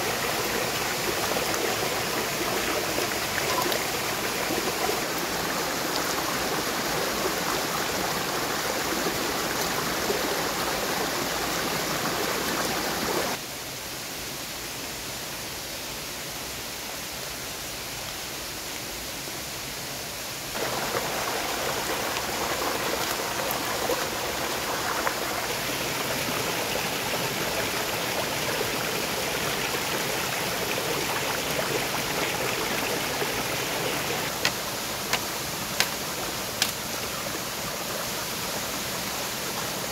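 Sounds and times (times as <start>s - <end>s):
stream water flowing: 0.0s - 13.4s, 20.5s - 39.9s.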